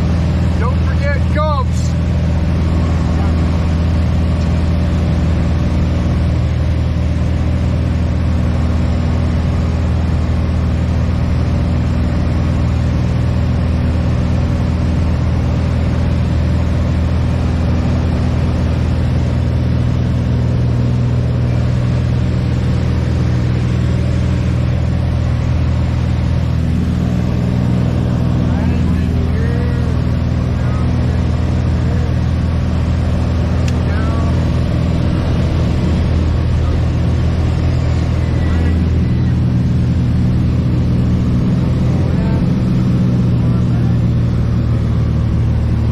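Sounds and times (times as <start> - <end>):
light airplane engine droning: 0.0 - 45.9.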